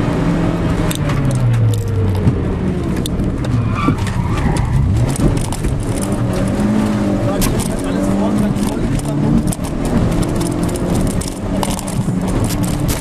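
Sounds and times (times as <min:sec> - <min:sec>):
rally car engine from cabin: 0:00.0 - 0:13.0
sharp rattles and clicks: 0:00.8 - 0:13.0.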